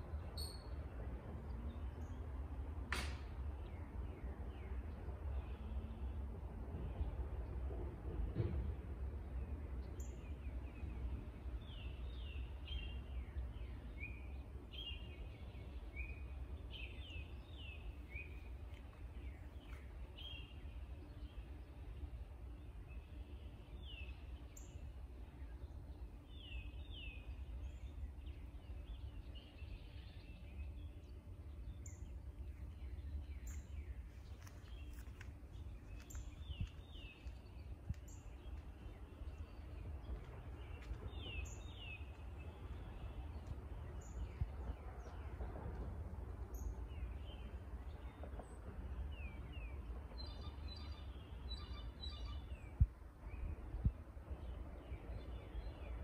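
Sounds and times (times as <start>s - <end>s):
low background rumble: 0.0s - 56.0s
songbirds chirping: 0.0s - 56.0s.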